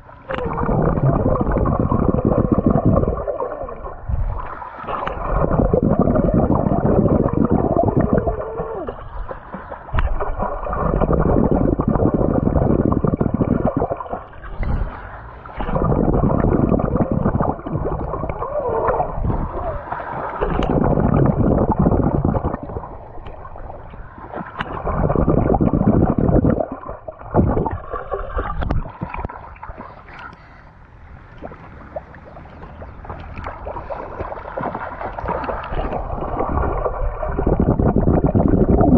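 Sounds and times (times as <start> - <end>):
muffled underwater water rushing: 0.0 - 38.9.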